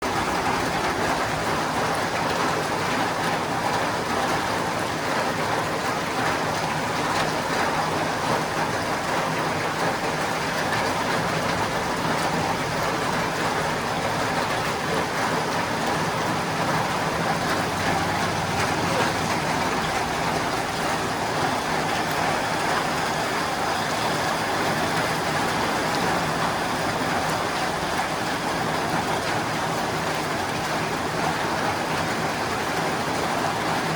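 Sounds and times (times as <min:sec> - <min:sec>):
rain drumming on a tin roof: 0:00.0 - 0:33.9.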